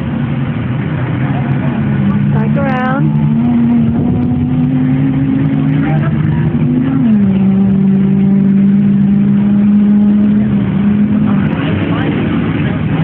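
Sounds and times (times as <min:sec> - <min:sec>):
racing engine at high revs: 0:00.0 - 0:13.0.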